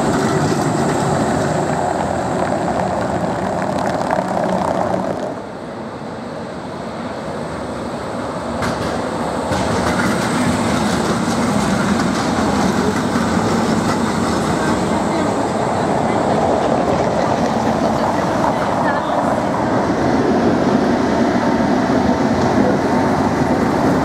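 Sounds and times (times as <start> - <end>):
tram wheels rumbling on rails: 0.0 - 24.0.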